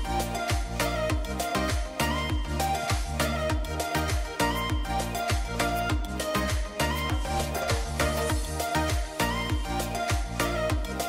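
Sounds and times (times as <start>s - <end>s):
steady kick drum beat: 0.0s - 11.0s
upbeat background music: 0.0s - 11.0s.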